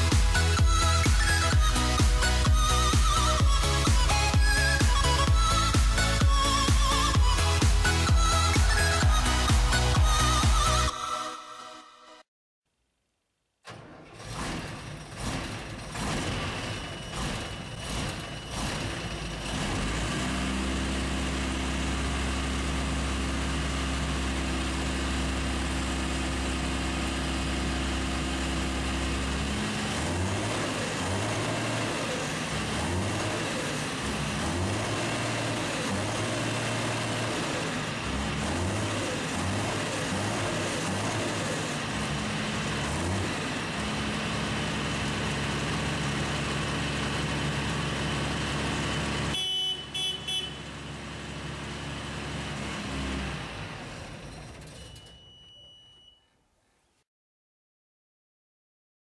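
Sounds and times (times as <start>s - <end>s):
diesel engine starting and running: 0.0s - 12.3s, 13.6s - 55.9s.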